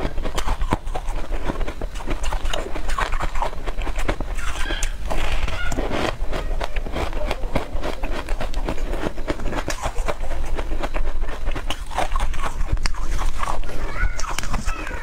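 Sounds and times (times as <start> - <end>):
crunchy crisp chewing: 0.0 - 15.0
mouth clicks: 0.0 - 15.0.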